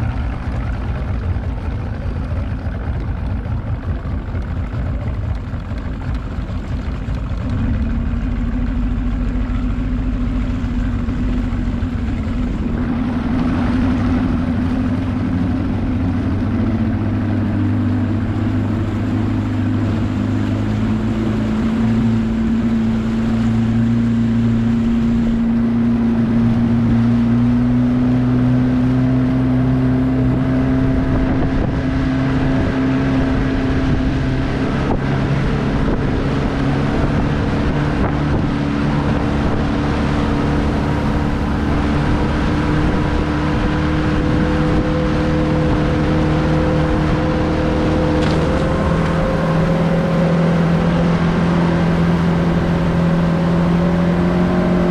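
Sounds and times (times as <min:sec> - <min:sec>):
outboard motor at speed: 0:00.0 - 0:54.9
water rushing along hull: 0:00.0 - 0:54.9.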